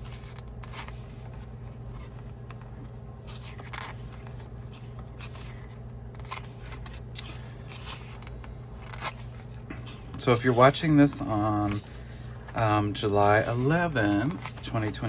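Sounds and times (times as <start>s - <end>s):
low electrical hum: 0.0s - 15.0s
photo book pages turning: 0.0s - 15.0s.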